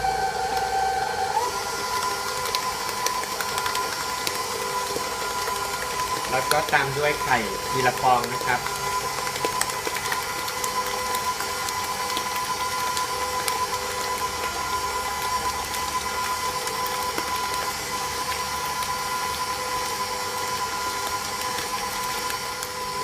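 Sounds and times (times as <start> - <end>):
electric mixer whining: 0.0 - 23.0.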